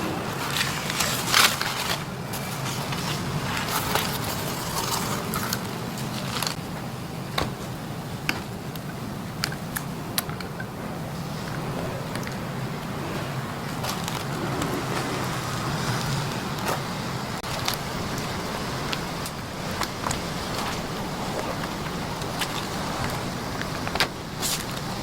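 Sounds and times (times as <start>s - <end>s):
crinkling and scraping craft materials: 0.0s - 6.6s, 10.2s - 25.0s
steady low hum: 0.0s - 25.0s.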